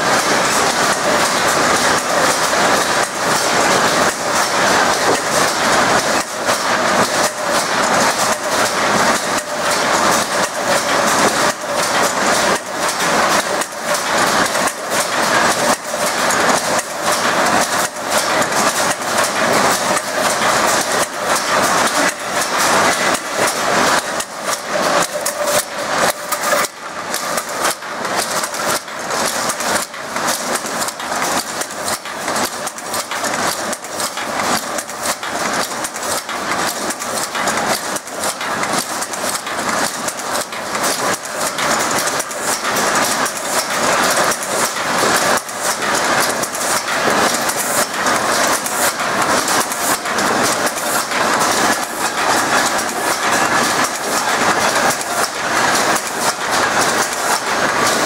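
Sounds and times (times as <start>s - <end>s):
weaving machine clatter: 0.0s - 58.0s.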